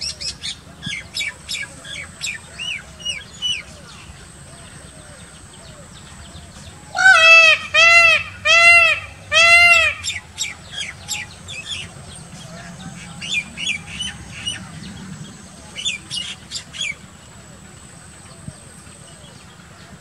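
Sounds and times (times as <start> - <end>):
peacock calling: 0.0 - 20.0
small birds chirping: 0.0 - 20.0.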